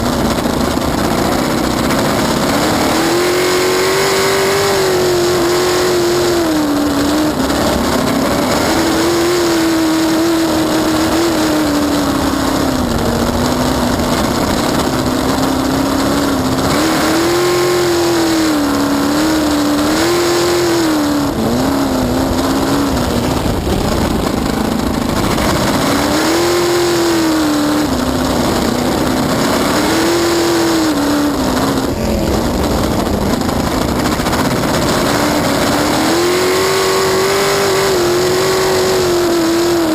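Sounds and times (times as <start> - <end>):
boat engine running hard: 0.0 - 39.9.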